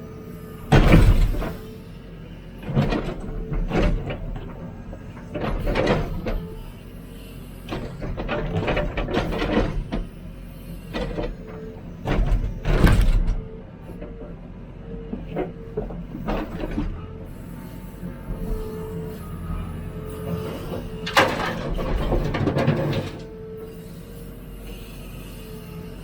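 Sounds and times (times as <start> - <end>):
backhoe engine and hydraulic whine: 0.0 - 26.0.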